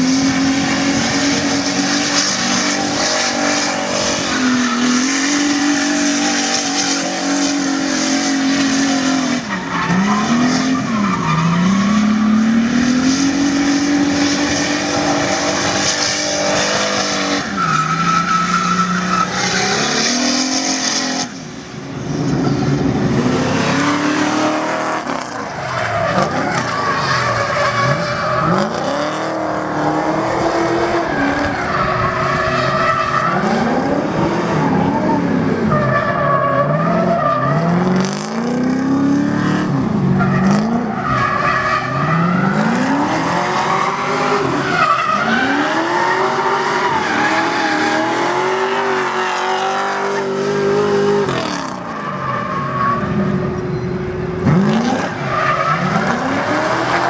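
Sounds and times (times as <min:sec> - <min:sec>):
car engine revving: 0:00.0 - 0:52.1, 0:52.9 - 0:57.0.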